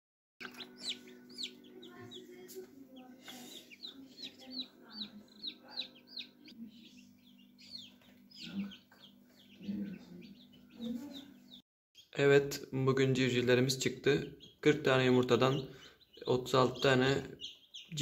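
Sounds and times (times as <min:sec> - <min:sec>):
chicks peeping: 0:00.4 - 0:18.0.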